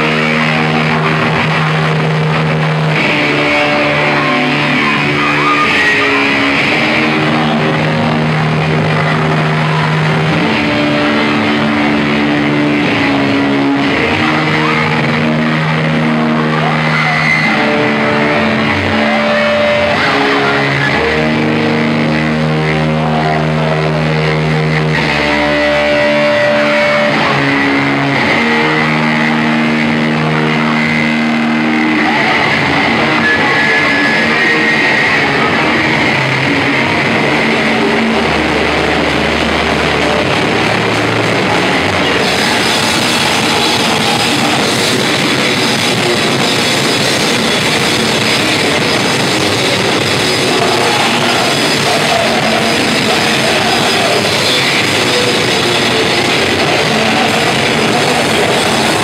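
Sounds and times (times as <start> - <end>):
bass guitar: 0.0 - 59.0
drums: 0.0 - 59.0
electric guitars: 0.0 - 59.0.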